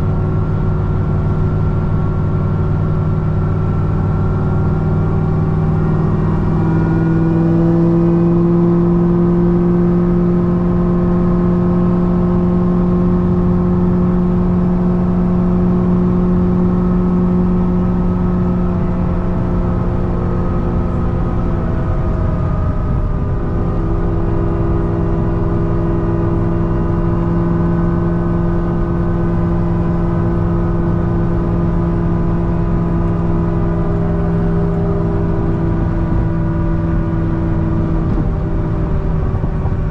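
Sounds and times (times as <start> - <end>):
car engine drone cruising: 0.0 - 39.9.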